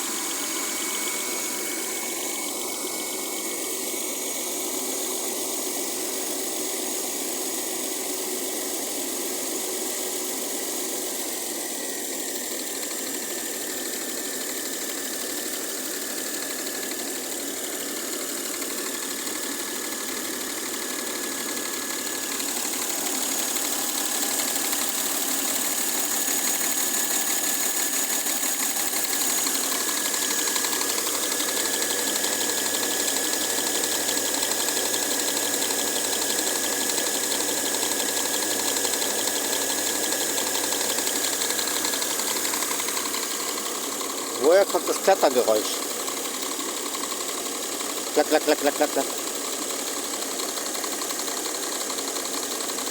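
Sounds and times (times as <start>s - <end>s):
car engine running: 0.0s - 7.4s, 9.2s - 52.9s.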